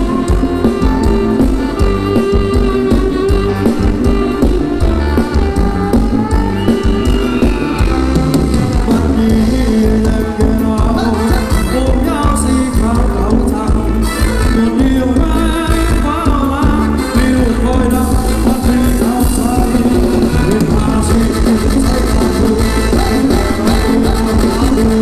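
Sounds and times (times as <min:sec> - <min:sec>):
band playing dance music: 0:00.0 - 0:25.0
person singing: 0:00.0 - 0:25.0.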